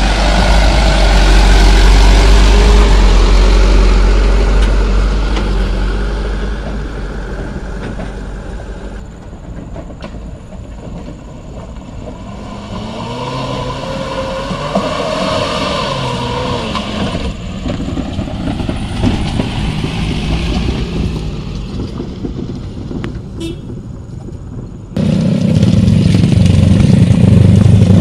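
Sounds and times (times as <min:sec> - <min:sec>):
smaller vehicle engine approaching: 0:00.0 - 0:28.0
truck diesel engine under load: 0:00.0 - 0:28.0.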